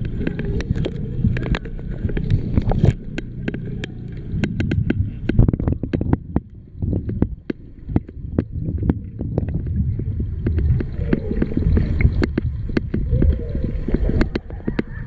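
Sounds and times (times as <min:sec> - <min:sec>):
muffled underwater rumble: 0:00.0 - 0:15.0
sharp underwater clicks and crackles: 0:00.0 - 0:15.0.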